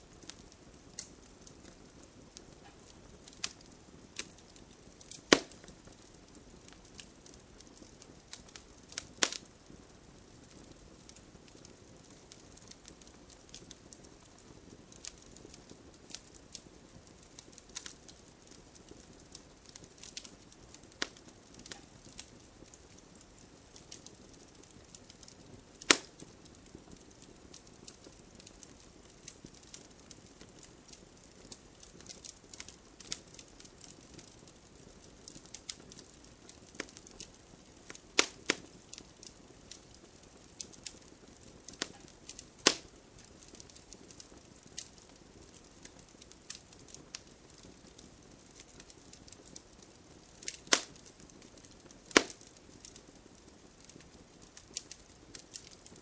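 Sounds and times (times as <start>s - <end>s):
wood fire crackling: 0.0s - 56.0s
loud fire pops: 0.1s - 56.0s.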